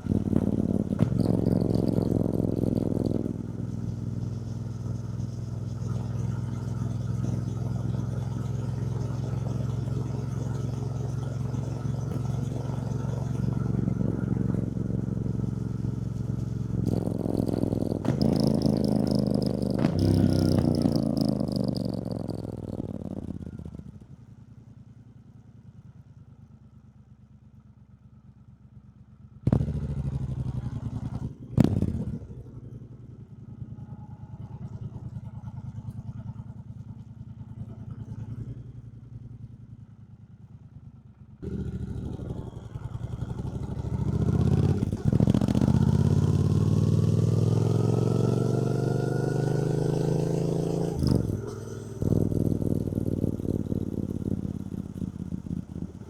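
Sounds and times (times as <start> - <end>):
motorcycle engine accelerating: 0.0 - 24.6, 29.1 - 56.0.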